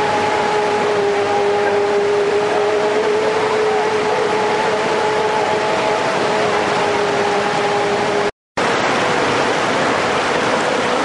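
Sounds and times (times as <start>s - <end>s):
outboard motor running flat out: 0.0s - 11.0s
rushing water and wind: 0.0s - 11.0s.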